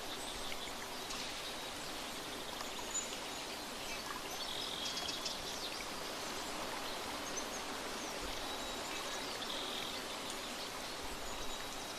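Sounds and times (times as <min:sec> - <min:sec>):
rushing water: 0:00.0 - 0:11.9.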